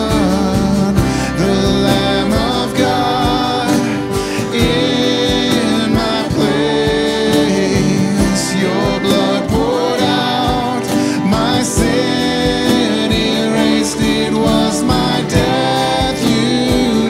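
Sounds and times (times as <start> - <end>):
cajon beat: 0.0 - 17.0
guitars and keyboard: 0.0 - 17.0
voices singing: 0.0 - 17.0.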